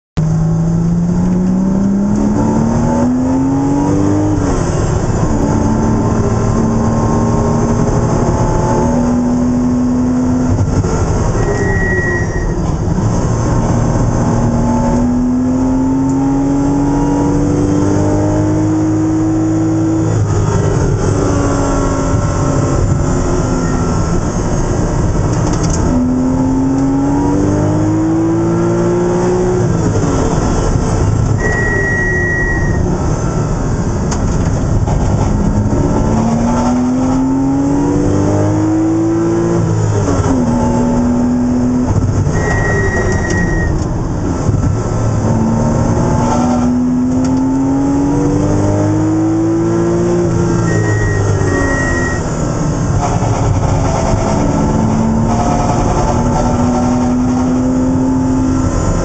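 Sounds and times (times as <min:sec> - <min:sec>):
race car engine revving: 0:00.2 - 0:59.0
road and tyre noise: 0:00.2 - 0:59.0.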